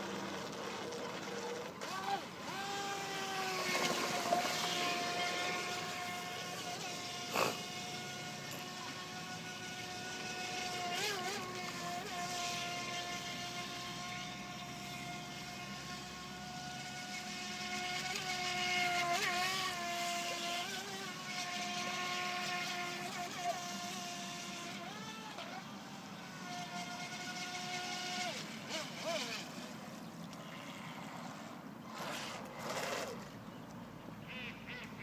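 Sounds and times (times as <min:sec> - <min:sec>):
small electric motor whining: 0:00.0 - 0:33.4.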